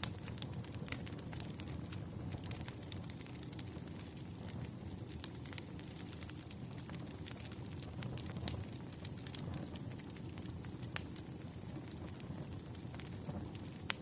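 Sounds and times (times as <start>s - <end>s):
flames rumbling: 0.0s - 14.0s
wood crackling and popping: 0.0s - 14.0s.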